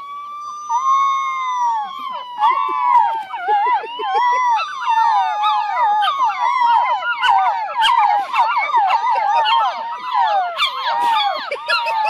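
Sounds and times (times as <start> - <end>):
puppies howling: 0.0 - 12.0.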